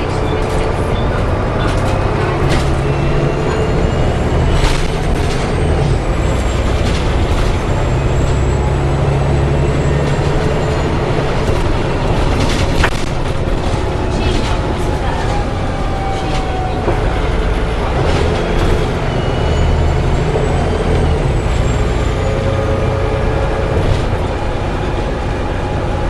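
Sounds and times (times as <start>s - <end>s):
bus engine drone: 0.0s - 26.0s
road rumble: 0.0s - 26.0s.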